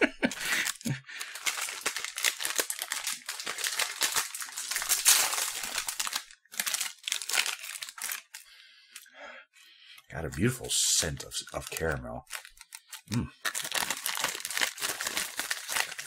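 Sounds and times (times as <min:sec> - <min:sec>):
plastic wrapper crinkling: 0:00.3 - 0:09.0, 0:10.2 - 0:16.0.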